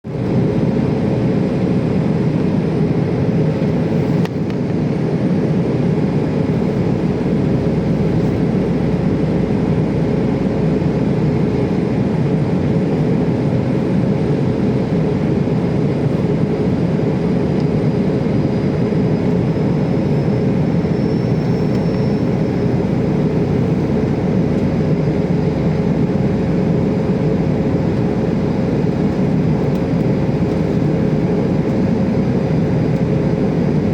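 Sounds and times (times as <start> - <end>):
aircraft cabin engine rumble: 0.1 - 33.9.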